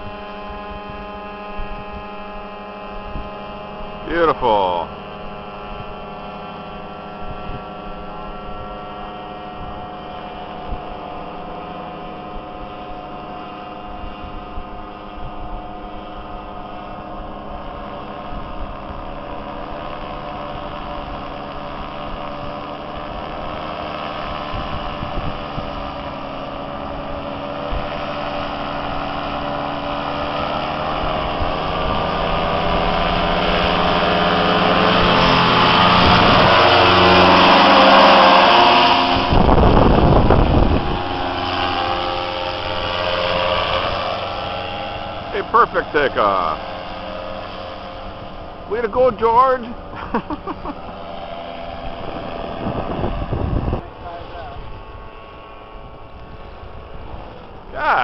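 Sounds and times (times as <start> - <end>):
paraglider engine and propeller: 0.0 - 58.0.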